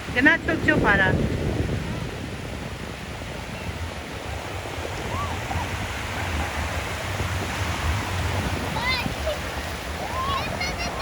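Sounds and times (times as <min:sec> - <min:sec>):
surf washing on shore: 0:00.0 - 0:11.0.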